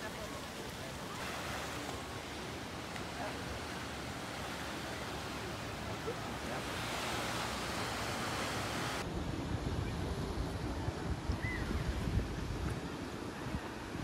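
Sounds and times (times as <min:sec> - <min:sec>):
waves washing onto beach: 0:00.0 - 0:14.0
wind rumble on microphone: 0:00.1 - 0:14.0.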